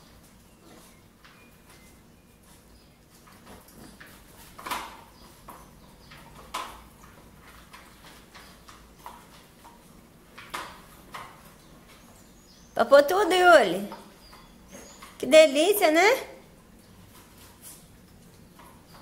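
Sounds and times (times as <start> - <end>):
dogs eating kibble: 0.0 - 19.0.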